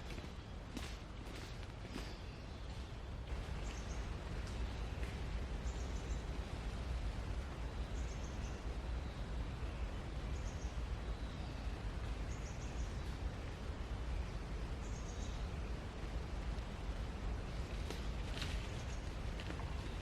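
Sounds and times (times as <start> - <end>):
steady rushing background noise: 0.0 - 20.0.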